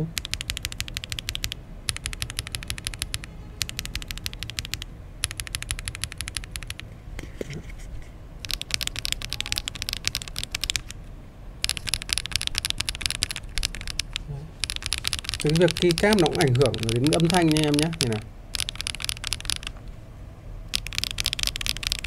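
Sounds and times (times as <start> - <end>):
mechanical keyboard typing: 0.0 - 6.9, 8.4 - 11.0, 11.6 - 19.8, 20.7 - 22.0.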